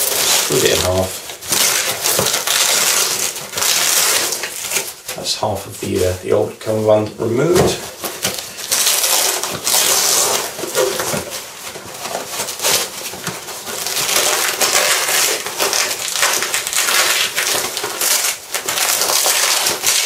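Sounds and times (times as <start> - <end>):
hook-and-loop fastener ripping: 0.0 - 5.2, 7.9 - 20.0
fabric and webbing rustling: 0.0 - 20.0.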